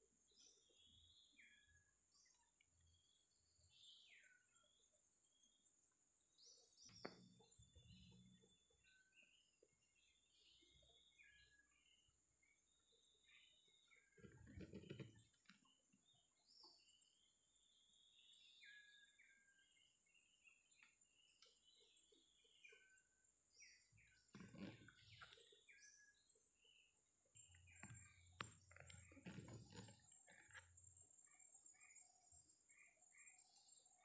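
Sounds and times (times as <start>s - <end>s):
bird chirps: 0.0s - 34.0s.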